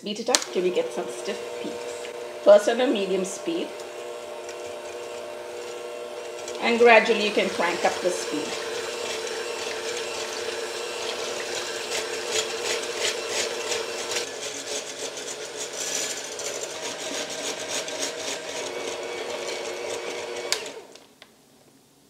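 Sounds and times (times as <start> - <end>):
electric mixer whisking: 0.0 - 21.0.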